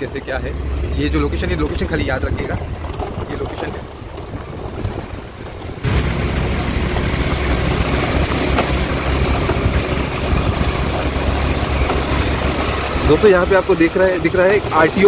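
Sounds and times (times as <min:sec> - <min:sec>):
road vehicle rumble: 0:00.0 - 0:15.0.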